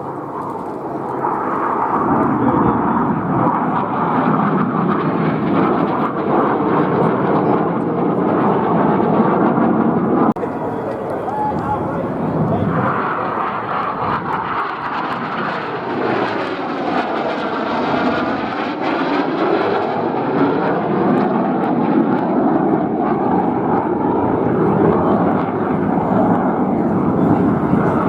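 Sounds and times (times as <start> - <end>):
aircraft engine flying past: 0.0 - 28.0.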